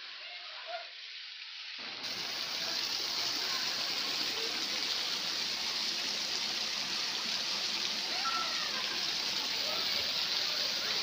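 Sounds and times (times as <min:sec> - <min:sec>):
water pouring and splashing into pool: 0:00.0 - 0:11.0.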